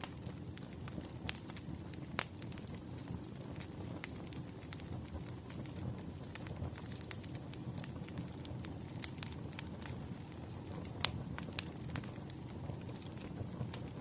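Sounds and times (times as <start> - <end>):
firewood crackling and popping: 0.0 - 14.0
flames rushing: 0.0 - 14.0.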